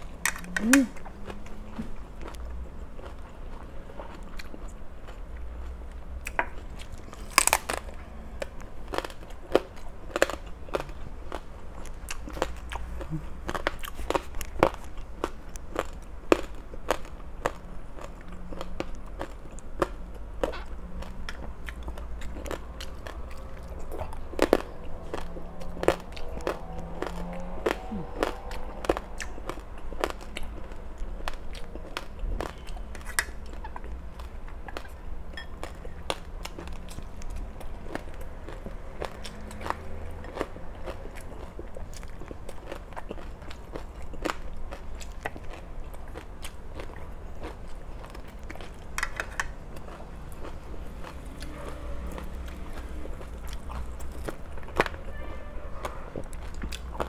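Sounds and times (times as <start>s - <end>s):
person chewing crunchy food: 0.0s - 55.2s, 55.8s - 57.0s.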